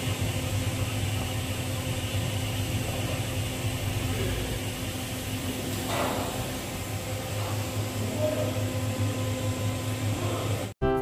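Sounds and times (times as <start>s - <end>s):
welding arc hissing: 0.0s - 10.7s
low electrical hum: 0.0s - 10.8s.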